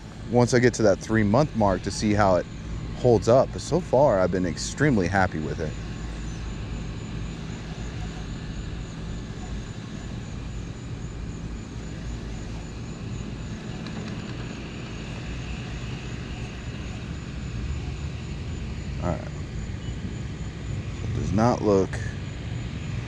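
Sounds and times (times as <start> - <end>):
distant motor drone: 0.0 - 23.0.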